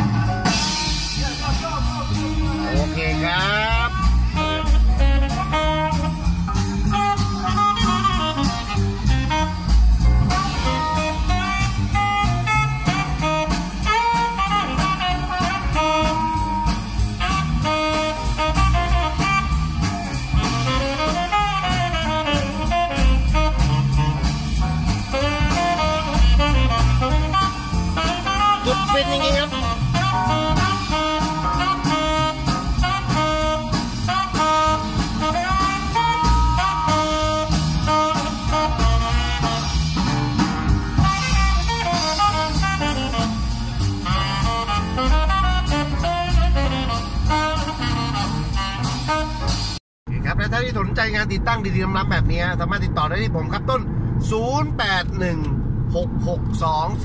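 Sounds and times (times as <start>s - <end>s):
jazz-like music on car stereo: 0.0s - 49.8s.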